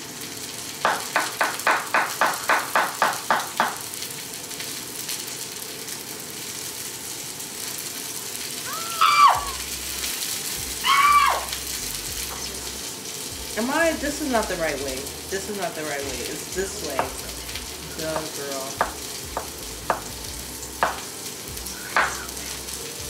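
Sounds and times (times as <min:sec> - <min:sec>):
chicken sizzling in a frying pan: 0:00.0 - 0:23.0.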